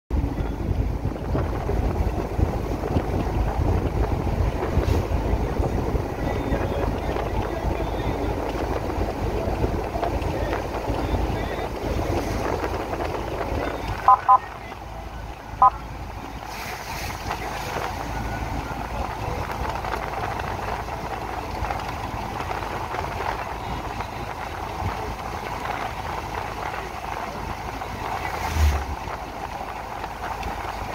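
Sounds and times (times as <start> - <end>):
car road noise: 0.1 - 30.9
wind buffeting microphone: 0.1 - 30.9.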